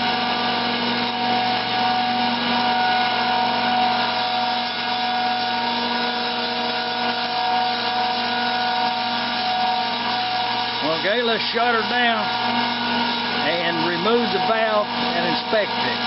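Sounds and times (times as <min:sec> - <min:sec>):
grinding machine whine: 0:00.0 - 0:16.0.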